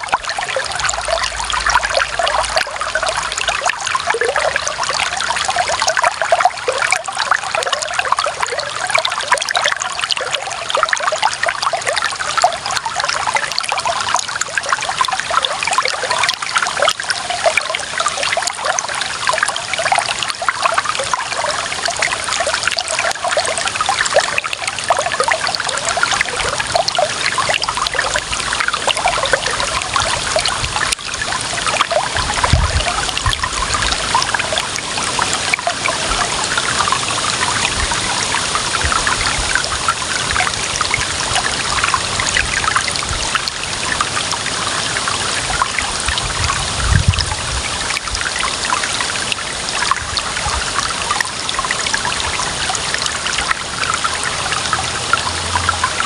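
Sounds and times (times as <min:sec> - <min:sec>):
water trickling over stones: 0:00.0 - 0:56.0.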